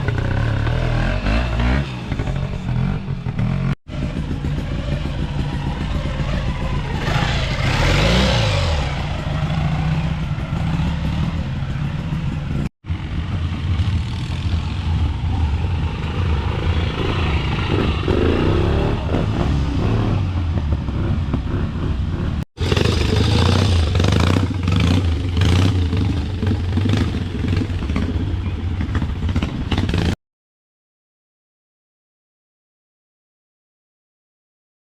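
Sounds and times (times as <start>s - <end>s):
trials motorcycle engines revving: 0.0s - 30.2s.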